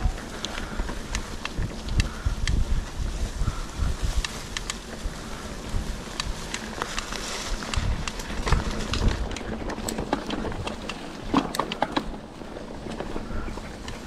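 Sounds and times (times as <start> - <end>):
bike rattling on stones: 0.0 - 14.0
wind rumble on microphone: 0.0 - 14.0.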